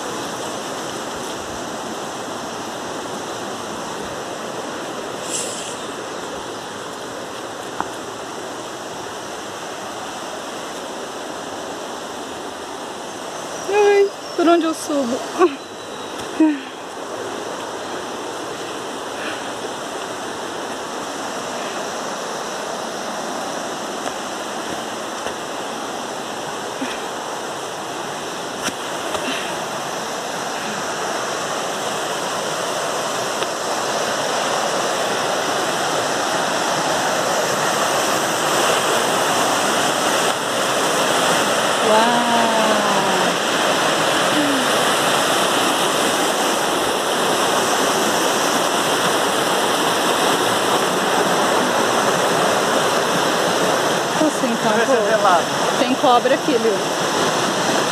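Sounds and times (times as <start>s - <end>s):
water rushing over rocks: 0.0s - 57.9s.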